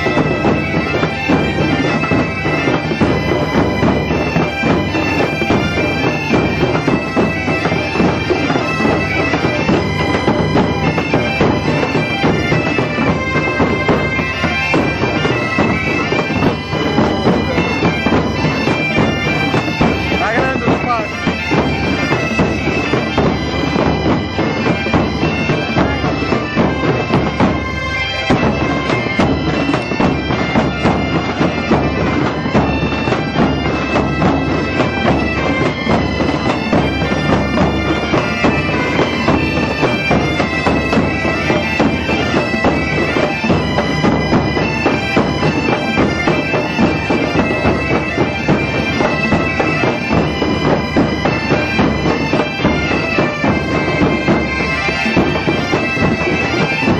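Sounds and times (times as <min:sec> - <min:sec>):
bagpipe band playing: 0:00.0 - 0:56.9
snare drums beating: 0:00.0 - 0:56.9.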